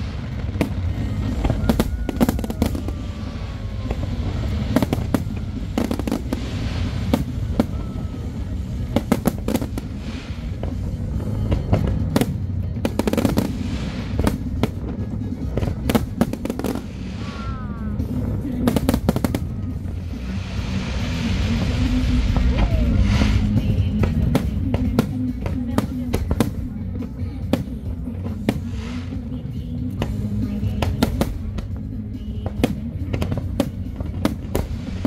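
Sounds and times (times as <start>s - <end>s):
low rumble: 0.0s - 35.0s.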